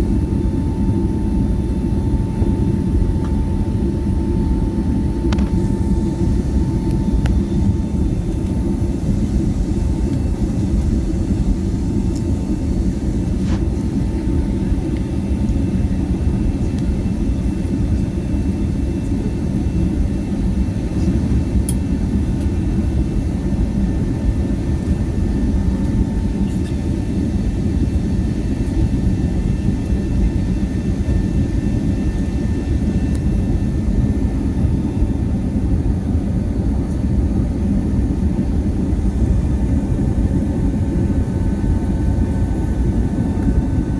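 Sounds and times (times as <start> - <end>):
jet engine cabin roar: 0.0 - 43.9.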